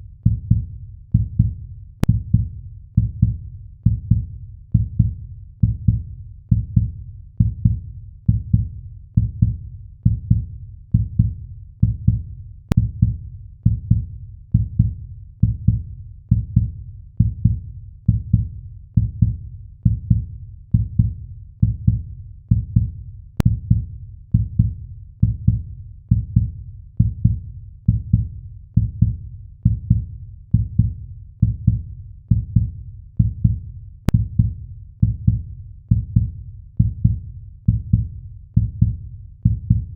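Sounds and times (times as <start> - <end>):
heartbeat thumps: 0.2 - 39.9.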